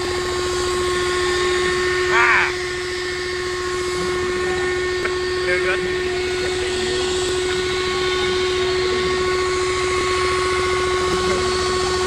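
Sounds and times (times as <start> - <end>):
horn-like drone from the sky: 0.0 - 12.0.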